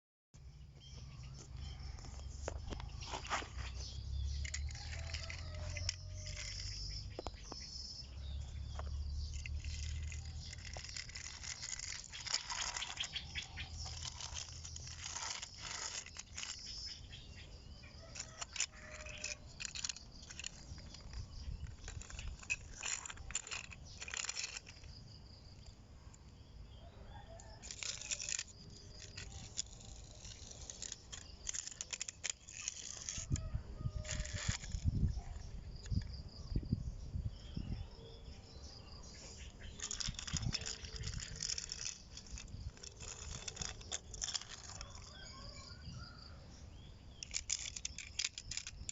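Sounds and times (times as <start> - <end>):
toy vehicles crunching and scraping: 0.5 - 36.4, 38.5 - 48.9.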